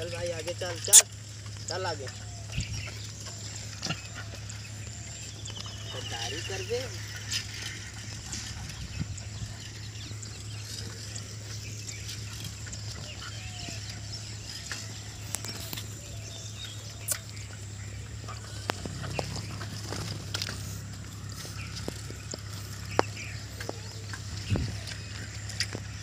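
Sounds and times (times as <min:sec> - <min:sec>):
footsteps on dirt path: 0:00.0 - 0:26.0
steady low hum: 0:00.0 - 0:26.0.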